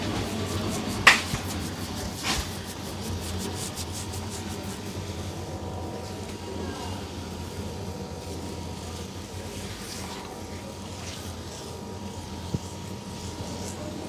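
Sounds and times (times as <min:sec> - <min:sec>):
low street hum: 0:00.0 - 0:14.0.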